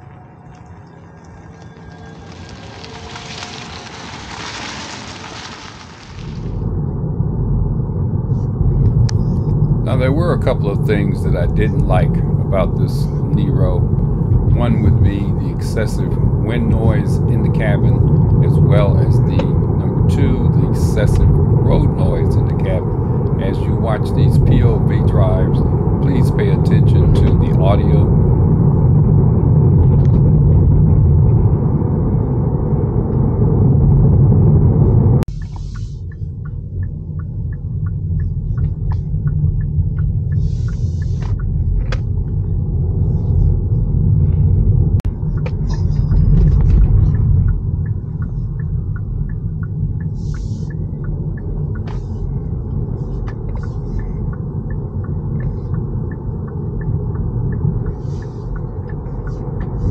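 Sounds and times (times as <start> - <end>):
car cabin road and wind rumble: 0.0 - 59.9.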